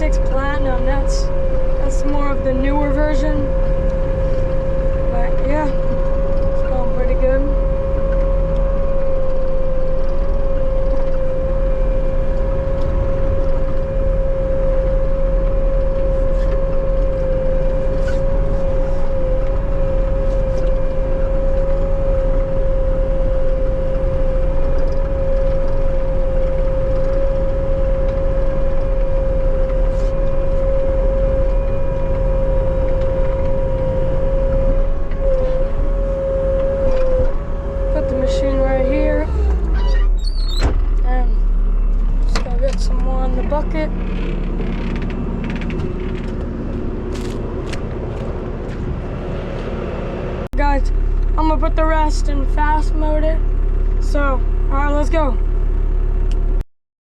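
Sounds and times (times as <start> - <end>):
diesel engine running under work: 0.0 - 56.6
high whine: 0.0 - 56.6.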